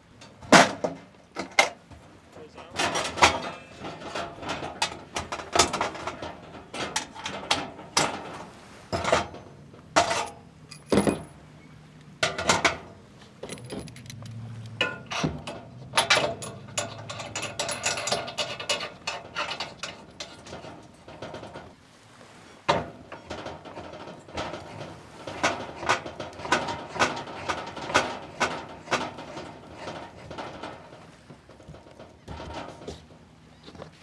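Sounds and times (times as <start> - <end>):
camp stove parts clanking: 0.0 - 11.4, 12.2 - 21.8, 22.7 - 34.0.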